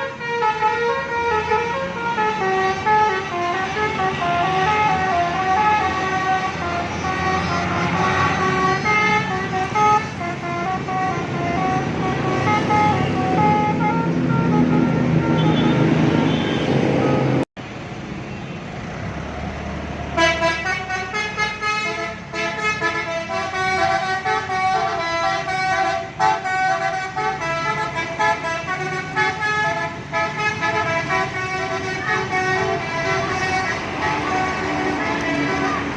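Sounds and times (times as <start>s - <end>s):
multi-tone air horn tune: 0.0s - 17.3s, 20.2s - 35.9s
bus engine running: 0.0s - 35.9s.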